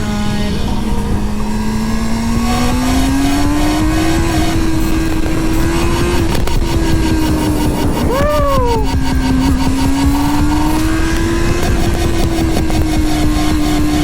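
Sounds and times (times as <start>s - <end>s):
motorcycle engine running: 0.0s - 14.0s
wind rush on microphone: 0.0s - 14.0s.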